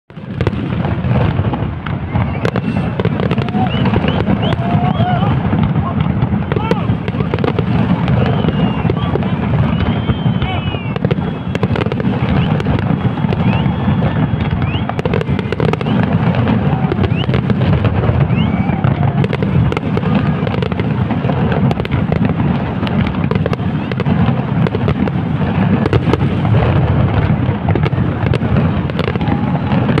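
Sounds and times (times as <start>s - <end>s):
fireworks bangs and crackling: 0.1s - 30.0s
rising firework whistles: 0.1s - 30.0s.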